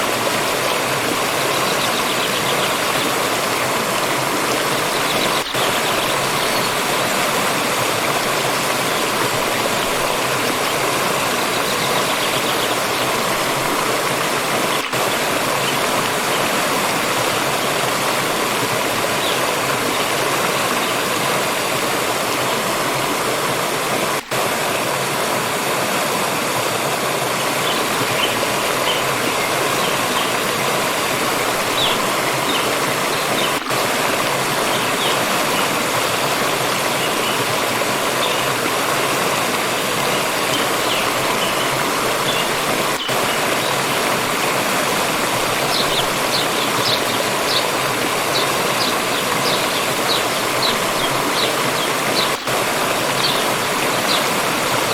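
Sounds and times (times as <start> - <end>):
water stream rushing: 0.0 - 54.9.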